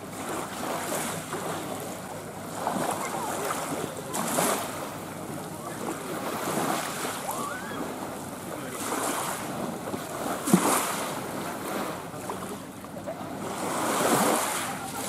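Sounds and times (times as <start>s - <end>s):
lake waves lapping at shore: 0.0s - 15.0s.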